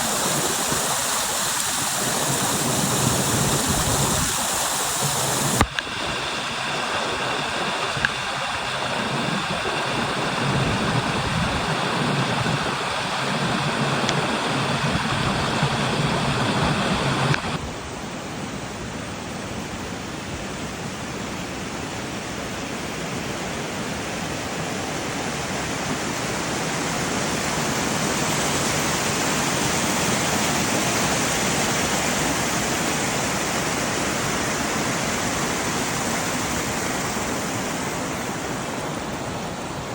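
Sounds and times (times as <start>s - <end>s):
stream waterfall splashing: 0.0s - 18.2s, 20.7s - 39.9s.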